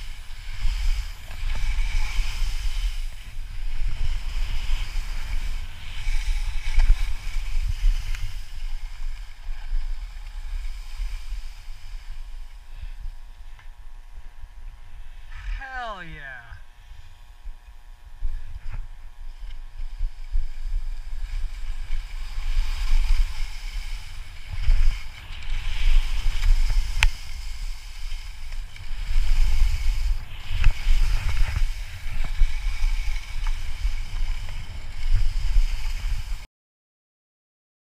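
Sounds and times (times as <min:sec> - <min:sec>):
skis scraping over snow: 0:00.0 - 0:13.2, 0:18.7 - 0:36.4.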